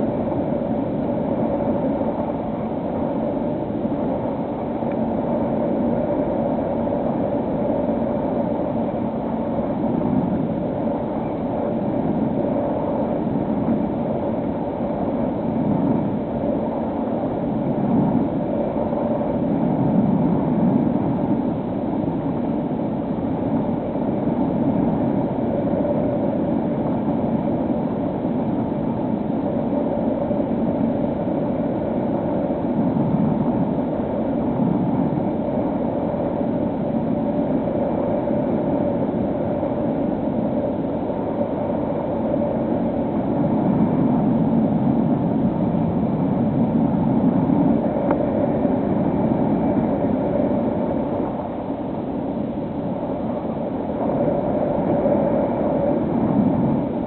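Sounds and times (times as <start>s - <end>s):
wind rush: 0.0s - 57.0s.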